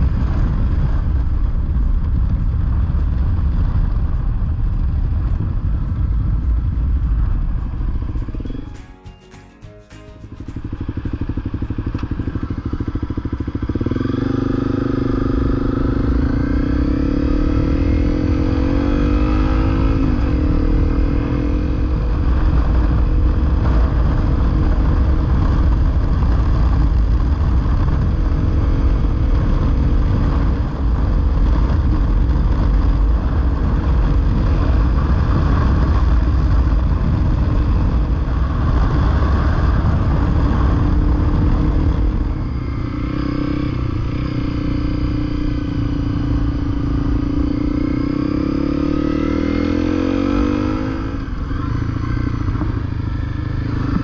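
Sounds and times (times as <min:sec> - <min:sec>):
heavy low rumble: 0:00.0 - 0:54.0
motorcycle engine running: 0:00.0 - 0:54.0.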